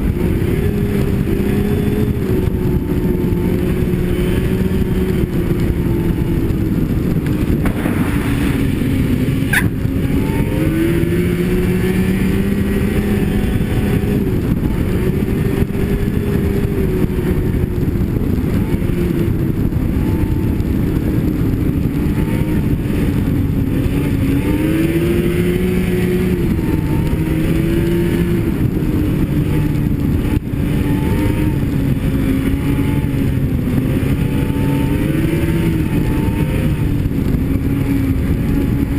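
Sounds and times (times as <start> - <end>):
snowmobile engine running: 0.0 - 38.9
steady rushing noise: 0.0 - 38.9.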